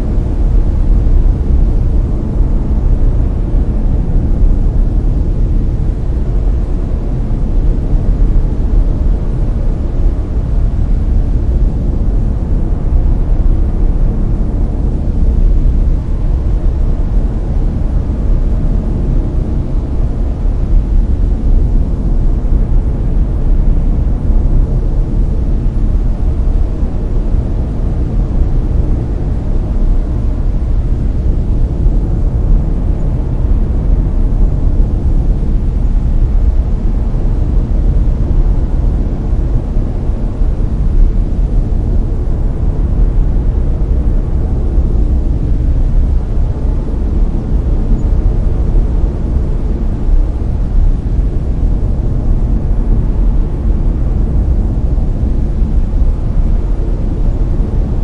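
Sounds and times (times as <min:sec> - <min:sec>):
deep brown noise rush: 0:00.0 - 0:58.0.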